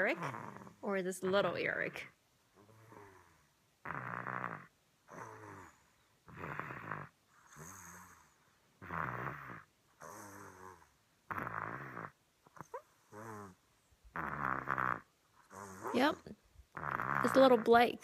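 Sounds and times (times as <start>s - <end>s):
child snoring: 0.0s - 0.8s, 2.6s - 17.6s.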